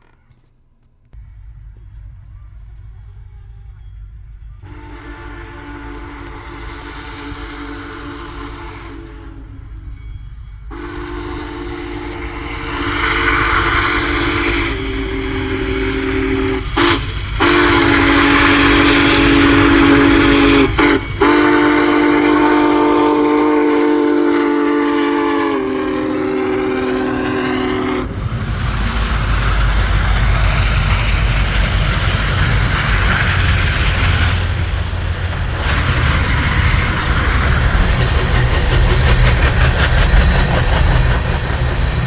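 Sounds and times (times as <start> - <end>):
train rumbling: 0.0 - 42.0
steam hissing: 1.2 - 42.0
steam locomotive whistle blasts: 1.5 - 39.2.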